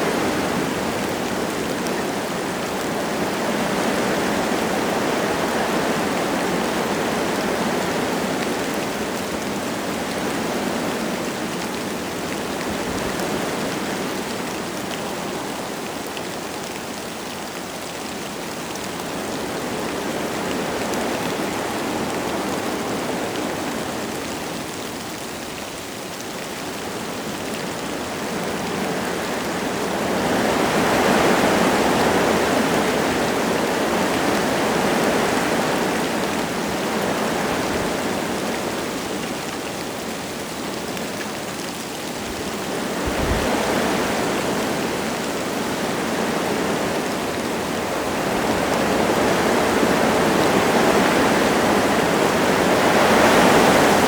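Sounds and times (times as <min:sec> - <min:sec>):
light rain falling: 0:00.0 - 0:54.0
wind gusting through trees: 0:00.0 - 0:54.0.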